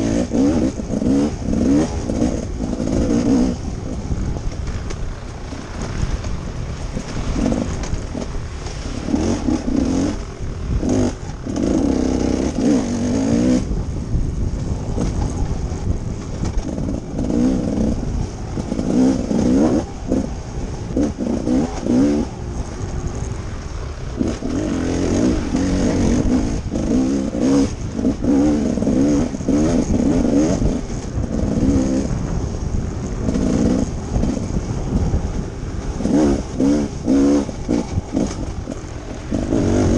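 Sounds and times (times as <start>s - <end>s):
dirt bike engine revving: 0.0s - 39.9s
wind on microphone: 0.0s - 39.9s.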